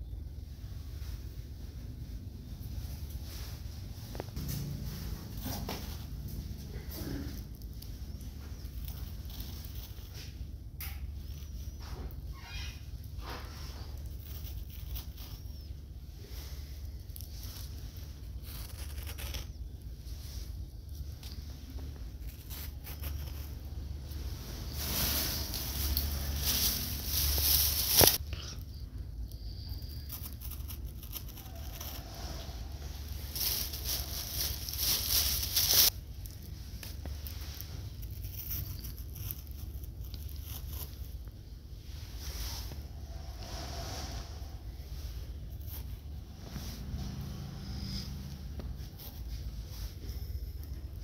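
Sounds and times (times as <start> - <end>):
low steady hum: 0.0 - 51.0
low steady rumble: 0.0 - 51.0
faint brushing sounds: 0.4 - 51.0
rustling handling noise: 0.8 - 51.0.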